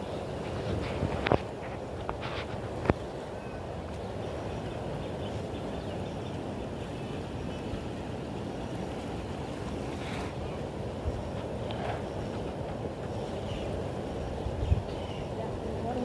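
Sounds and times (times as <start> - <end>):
river flowing: 0.0 - 16.0
wind on microphone: 0.0 - 16.0.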